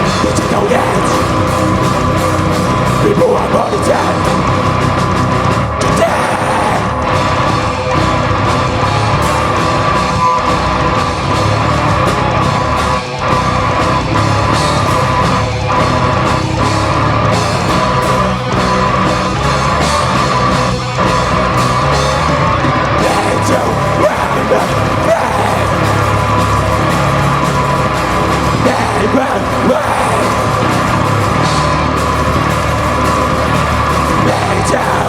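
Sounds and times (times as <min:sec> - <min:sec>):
heavy rock band playing: 0:00.0 - 0:35.0.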